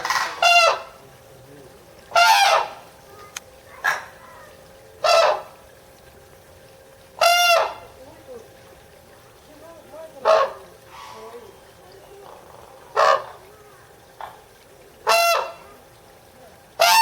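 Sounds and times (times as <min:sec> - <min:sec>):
cranes calling: 0:00.0 - 0:01.0, 0:02.0 - 0:05.8, 0:07.1 - 0:17.0.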